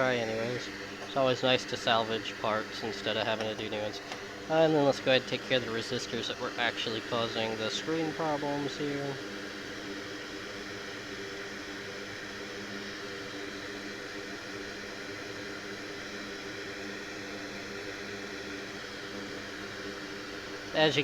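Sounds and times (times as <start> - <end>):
blower fan whirring hiss: 0.0 - 21.0
faint hum: 0.0 - 21.0.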